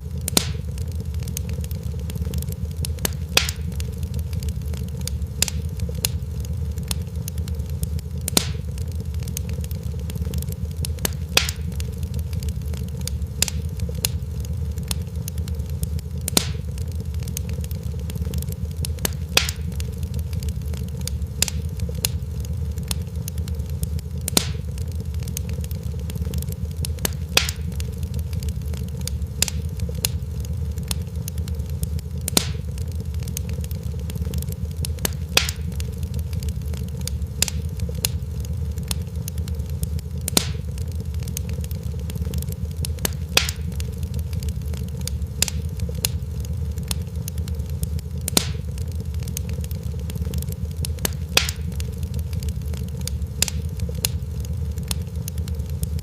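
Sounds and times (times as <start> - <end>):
fire crackling and popping: 0.0 - 56.0
sharp fire snaps: 0.0 - 56.0.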